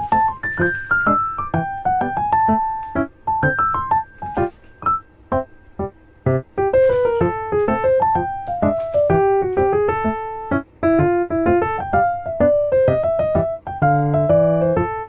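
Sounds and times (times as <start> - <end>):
light bright piano melody: 0.0 - 15.0.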